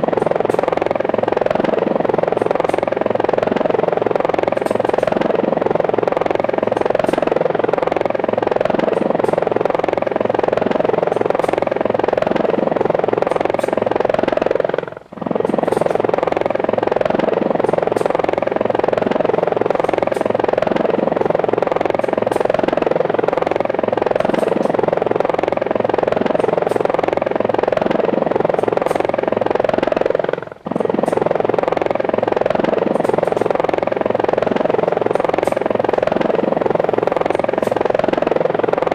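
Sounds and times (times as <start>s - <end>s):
helicopter rotor whirring: 0.0s - 38.9s.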